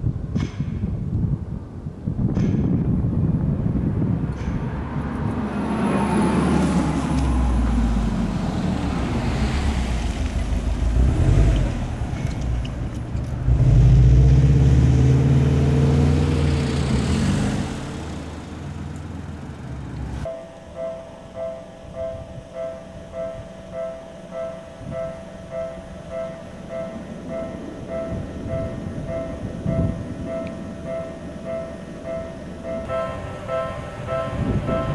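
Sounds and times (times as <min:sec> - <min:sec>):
vehicles driving past: 0:02.7 - 0:34.9.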